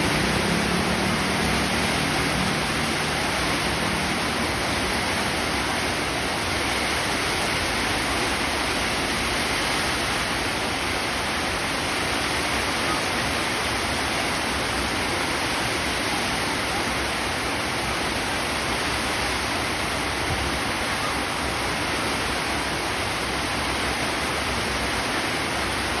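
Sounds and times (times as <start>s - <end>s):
heavy rain: 0.0s - 26.0s
wind: 0.0s - 26.0s.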